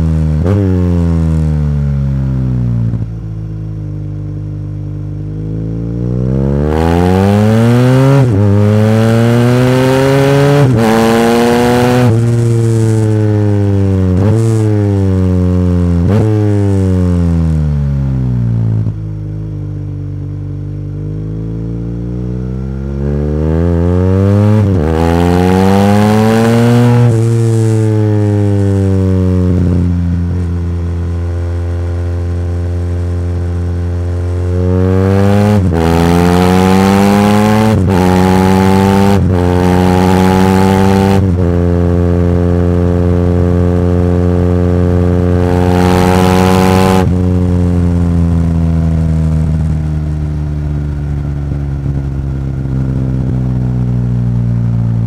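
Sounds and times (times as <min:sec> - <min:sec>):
motorcycle accelerating through gears: 0:00.0 - 0:55.0.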